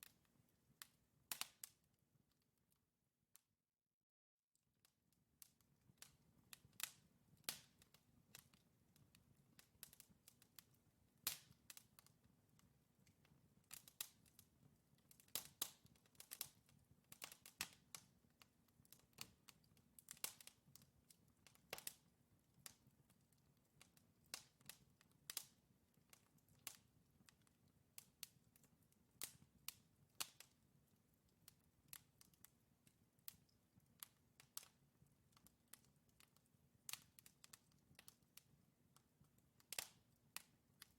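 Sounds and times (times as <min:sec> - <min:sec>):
wood fire crackling: 0:00.0 - 0:01.9, 0:05.4 - 0:40.9.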